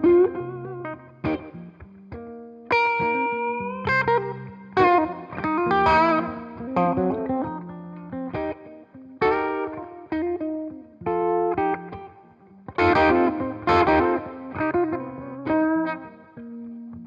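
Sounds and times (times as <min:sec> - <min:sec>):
electric guitar notes and chords: 0:00.0 - 0:17.0.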